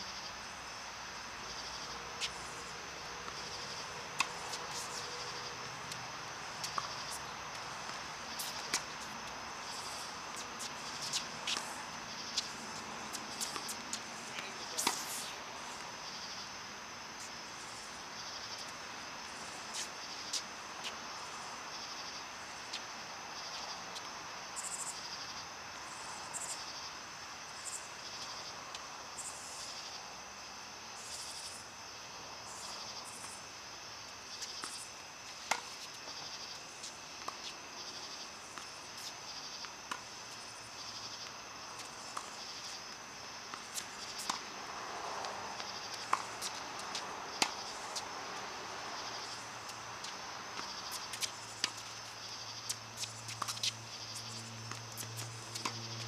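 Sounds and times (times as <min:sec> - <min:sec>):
insects chirring: 0:00.0 - 0:56.0
soft outdoor hiss: 0:00.0 - 0:56.0.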